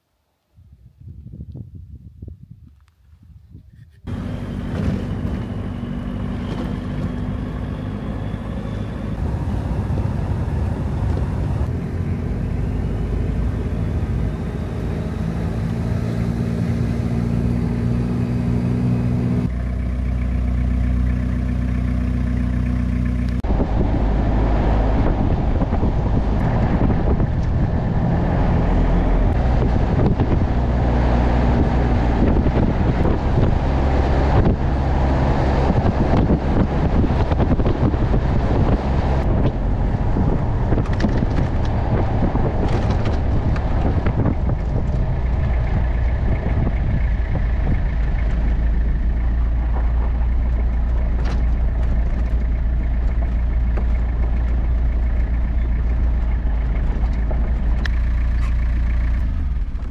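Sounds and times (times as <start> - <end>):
tyre and wind noise: 0.5 - 19.5, 23.4 - 59.9
engine droning while driving: 3.7 - 59.9.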